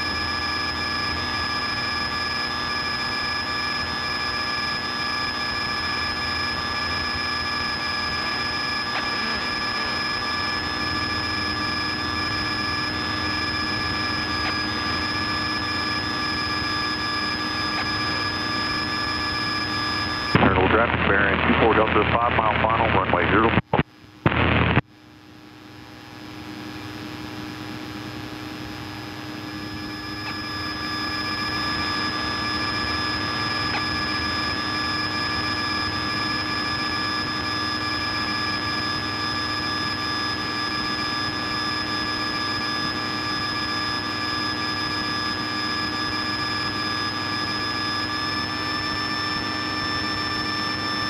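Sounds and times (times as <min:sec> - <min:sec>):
propeller plane engine droning: 0:00.0 - 0:24.2, 0:25.0 - 0:51.0.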